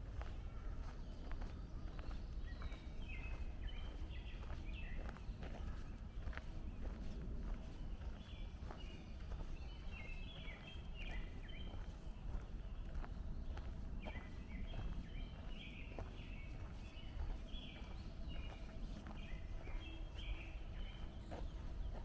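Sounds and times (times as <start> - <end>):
footsteps on a trail: 0.0 - 22.0
songbirds chirping: 0.0 - 22.0.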